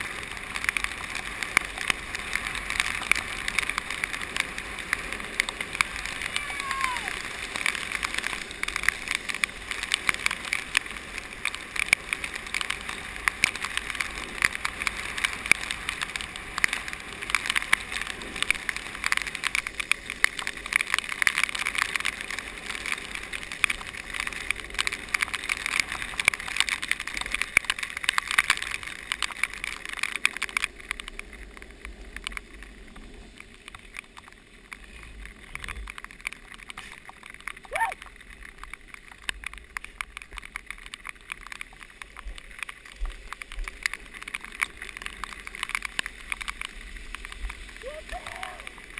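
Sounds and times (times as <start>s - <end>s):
wheels rolling over wet pavement: 0.0s - 48.9s.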